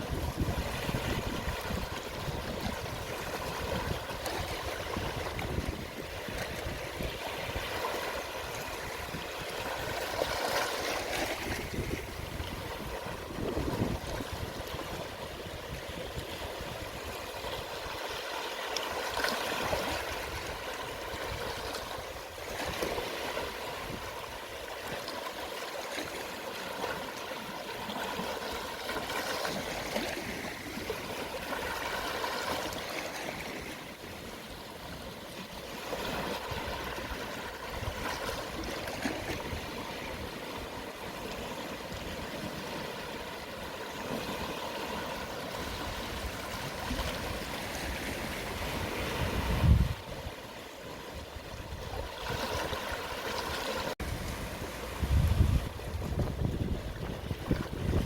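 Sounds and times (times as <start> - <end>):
small waves washing onto shore: 0.0 - 58.0.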